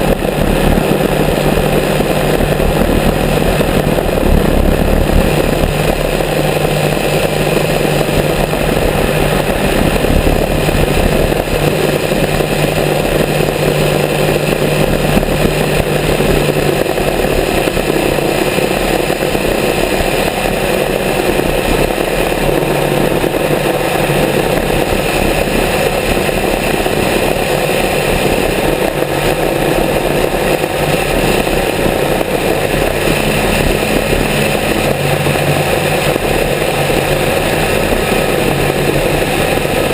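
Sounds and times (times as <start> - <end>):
twin piston aircraft engines: 0.0 - 39.9.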